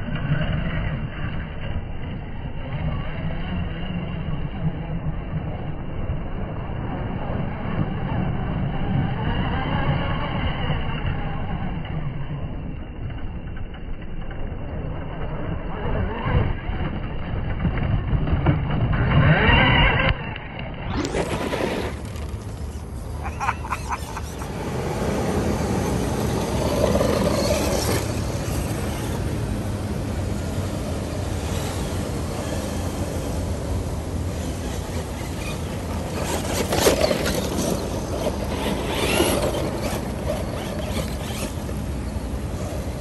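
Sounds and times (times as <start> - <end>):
toy truck motor and tyres: 0.0 - 43.0.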